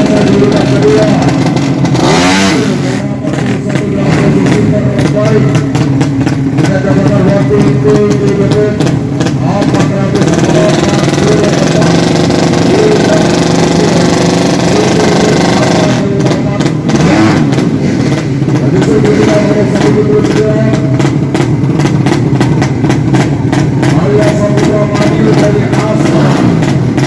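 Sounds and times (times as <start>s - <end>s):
motorcycle engines revving hard: 0.0s - 27.0s.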